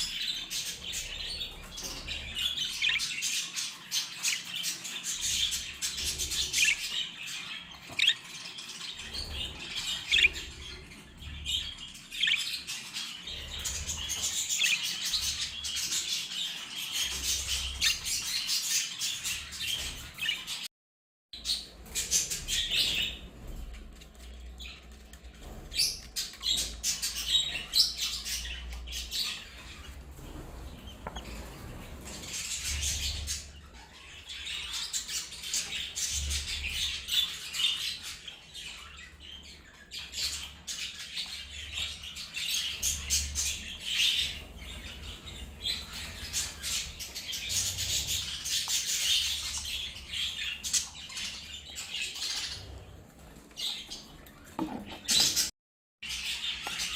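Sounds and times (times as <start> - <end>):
budgerigars chattering and chirping: 0.0 - 20.6, 25.4 - 53.0.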